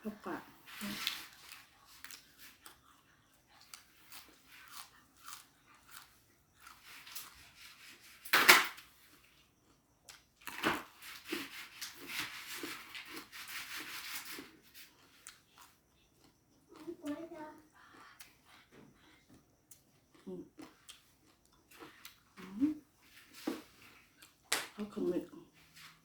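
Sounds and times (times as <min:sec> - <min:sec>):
chewing crunchy raw vegetables: 0:00.6 - 0:08.2, 0:08.8 - 0:24.5.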